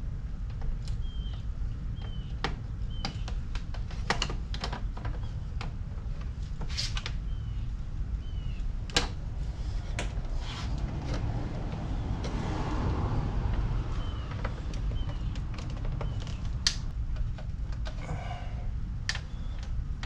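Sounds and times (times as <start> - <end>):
steady low hum: 0.0 - 12.3, 13.0 - 20.0.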